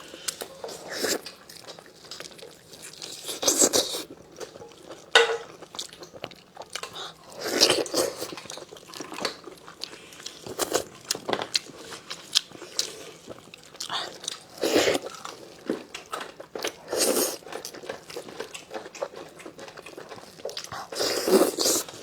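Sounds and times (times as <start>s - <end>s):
close chewing and crunching: 0.0s - 22.0s.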